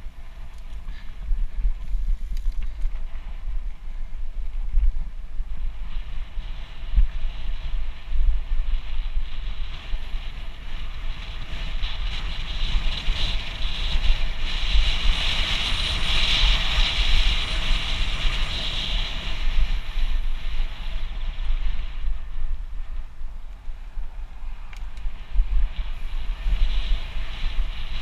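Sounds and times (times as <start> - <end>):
bike rattling: 0.0 - 28.0
wind buffeting microphone: 0.0 - 28.0.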